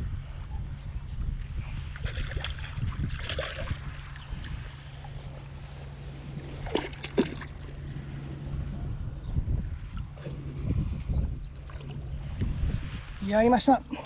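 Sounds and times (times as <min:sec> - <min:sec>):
wind buffeting microphone: 0:00.0 - 0:14.0
water sloshing and splashing: 0:01.8 - 0:14.0.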